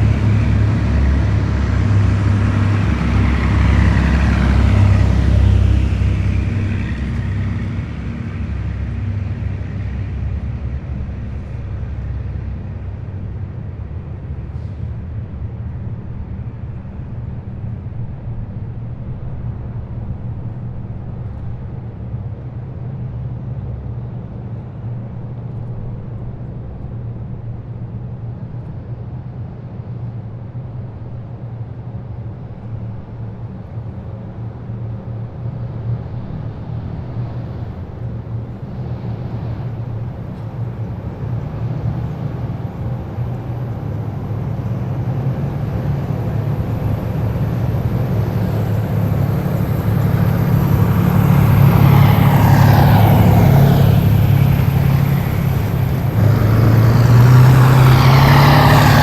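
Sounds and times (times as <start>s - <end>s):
diesel engines rumbling: 0.0s - 30.1s, 32.0s - 59.0s.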